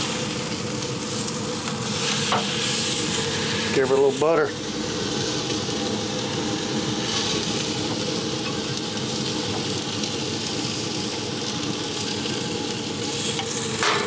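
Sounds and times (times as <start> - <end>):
steak sizzling on a grill: 0.0 - 14.0.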